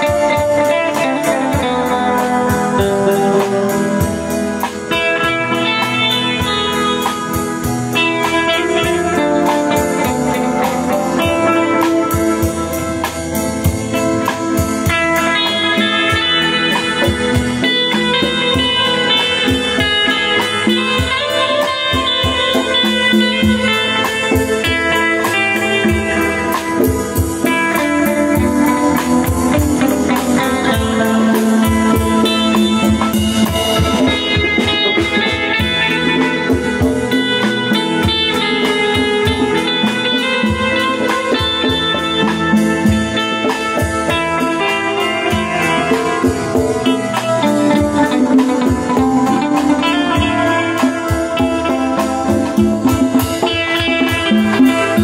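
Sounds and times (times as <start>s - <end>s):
drum kit beat: 0.0s - 55.0s
electric guitar bending notes: 0.0s - 55.0s.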